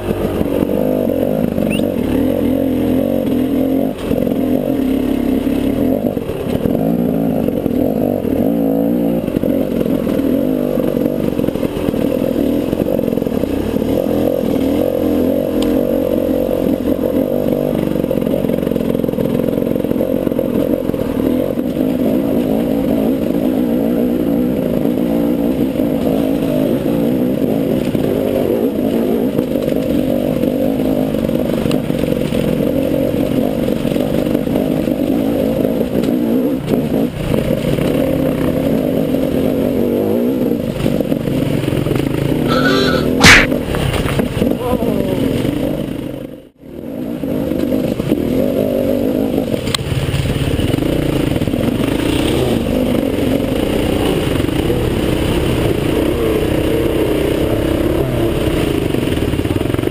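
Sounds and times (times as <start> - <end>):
dirt bike engine at low revs: 0.0 - 59.9.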